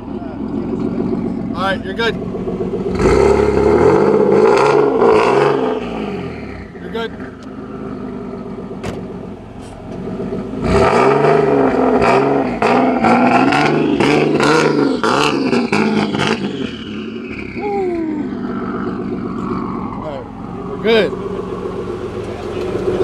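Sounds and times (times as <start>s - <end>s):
car engine revving in blips: 0.0s - 23.0s.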